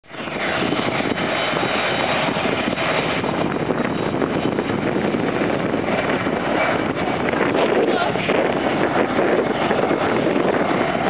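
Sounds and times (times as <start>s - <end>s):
jet airliner taking off: 0.0s - 11.0s.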